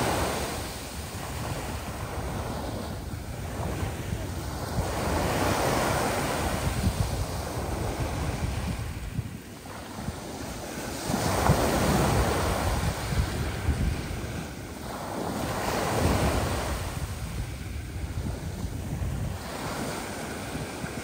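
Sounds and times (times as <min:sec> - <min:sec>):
waves breaking: 0:00.0 - 0:21.0
wind rumble on microphone: 0:00.0 - 0:21.0.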